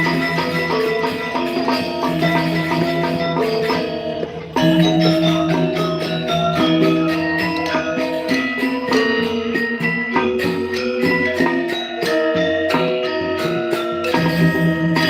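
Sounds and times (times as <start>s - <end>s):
gamelan metallophones playing: 0.0s - 15.0s.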